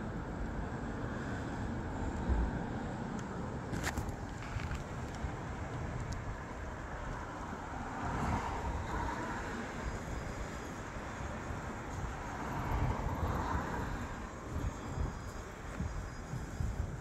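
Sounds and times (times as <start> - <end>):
road traffic passing: 0.0 - 17.0
vehicle tyre noise: 0.8 - 17.0.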